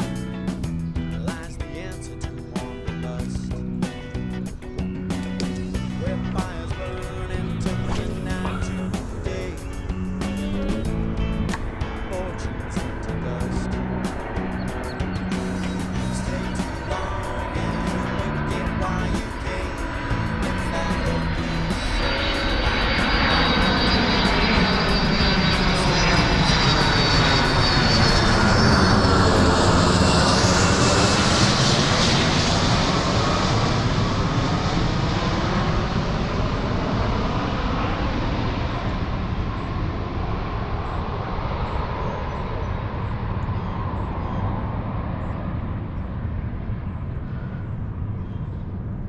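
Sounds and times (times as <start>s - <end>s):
airplane passing overhead: 0.0s - 49.0s.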